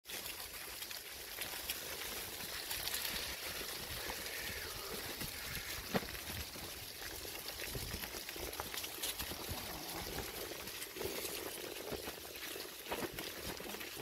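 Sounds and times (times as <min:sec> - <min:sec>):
bicycle tyres rolling over dry leaves: 0:00.0 - 0:14.0.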